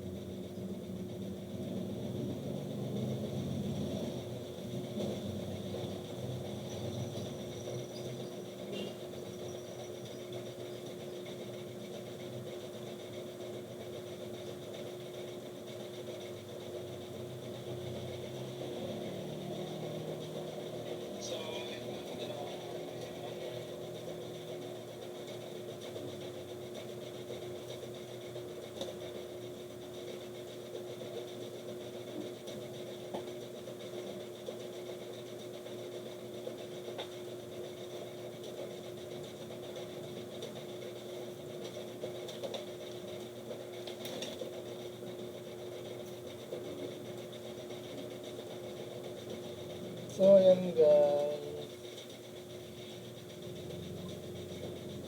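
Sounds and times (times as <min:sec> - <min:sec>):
fan humming: 0:00.0 - 0:55.0.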